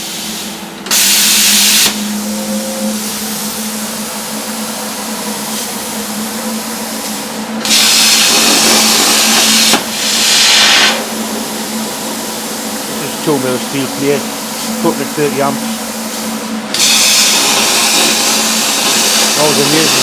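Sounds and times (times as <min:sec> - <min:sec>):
torch hissing loudly: 0:00.0 - 0:03.6, 0:07.1 - 0:20.0
plasma cutter humming and hissing: 0:00.0 - 0:20.0.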